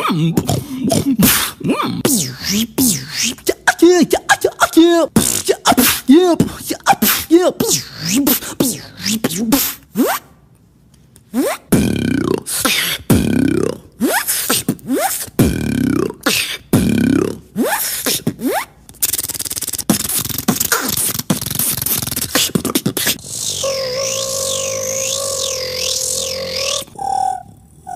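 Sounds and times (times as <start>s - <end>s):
beatboxing sweeps and clicks: 0.0s - 10.4s, 11.1s - 27.1s.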